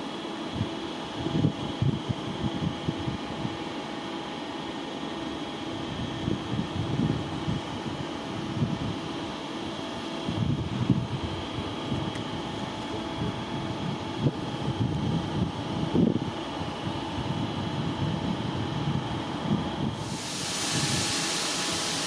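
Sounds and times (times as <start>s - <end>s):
train running by: 0.0s - 22.0s.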